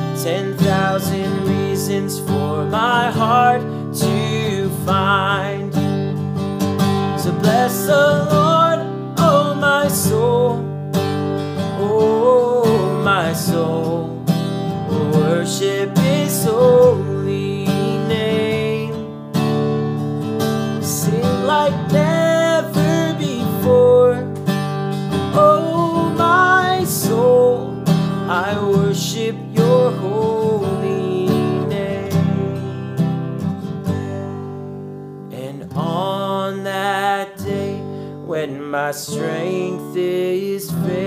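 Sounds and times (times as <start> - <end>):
man singing: 0.0 - 19.6, 20.4 - 34.4, 35.3 - 41.0
acoustic guitar strumming: 0.0 - 41.0.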